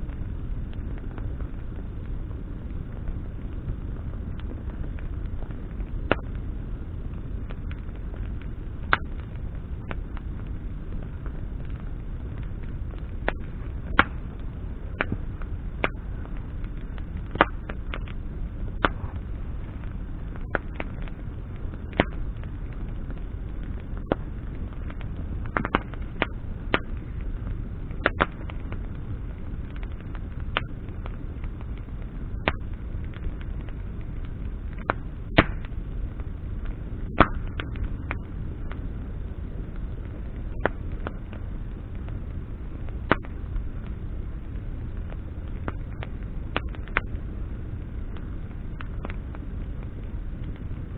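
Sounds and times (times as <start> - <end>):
bonfire crackling and popping: 0.0 - 50.9
low fire rumble: 0.0 - 50.9.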